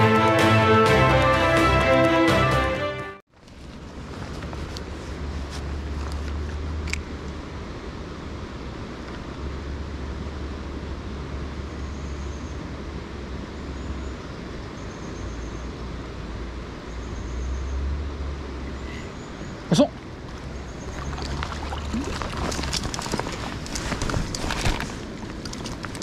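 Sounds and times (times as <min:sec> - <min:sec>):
steady outdoor hiss: 0:03.3 - 0:26.0.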